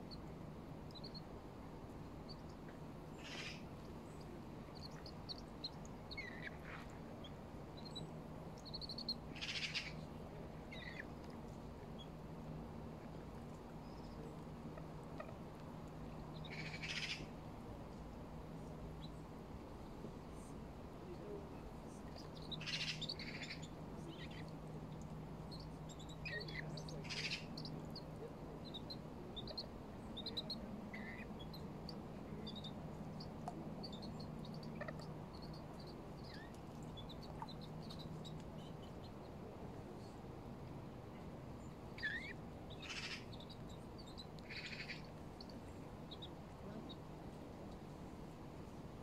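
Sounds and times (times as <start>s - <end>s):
birds chirping: 0.9s - 1.3s, 2.1s - 17.4s, 20.2s - 40.2s, 41.1s - 47.1s.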